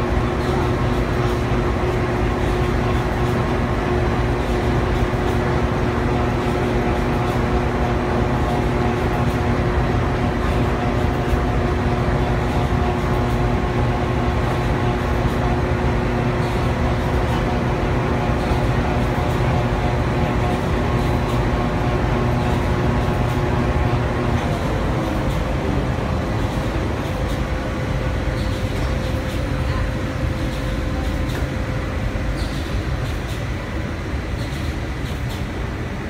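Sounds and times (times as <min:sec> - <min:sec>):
industrial printing machine rumble: 0:00.0 - 0:36.0.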